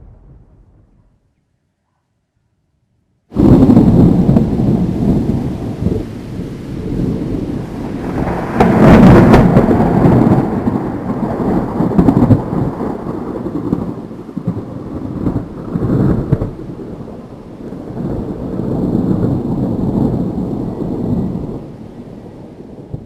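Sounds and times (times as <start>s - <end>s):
crackling thunder clap: 0.0s - 1.2s, 3.3s - 23.0s
rolling thunder rumble: 0.0s - 1.2s, 3.4s - 23.0s.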